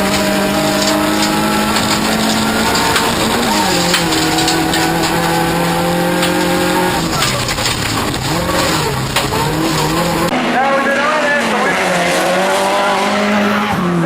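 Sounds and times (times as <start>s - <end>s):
racing car engine running hard: 0.0s - 14.0s.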